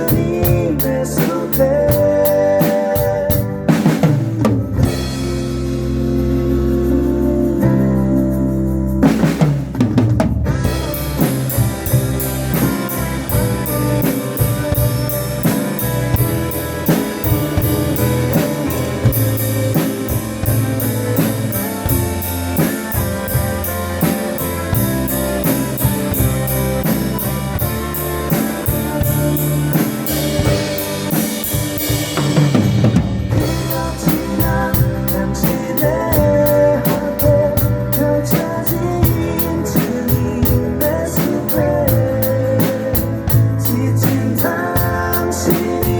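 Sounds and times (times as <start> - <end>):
drum kit beat: 0.0 - 6.2, 9.0 - 45.9
backing track with guitar: 0.0 - 45.9.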